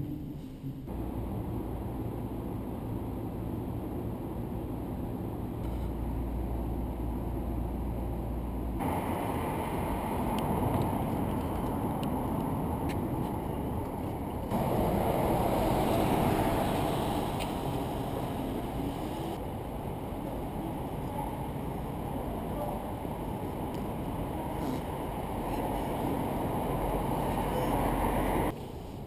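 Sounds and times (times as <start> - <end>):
traffic rumble: 0.0 - 29.0
wind: 0.0 - 29.0.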